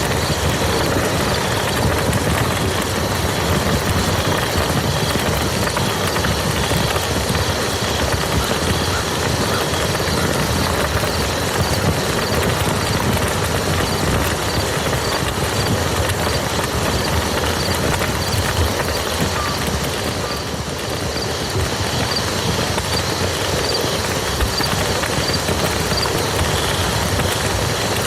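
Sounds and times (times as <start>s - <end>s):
dense rain falling: 0.0s - 28.0s.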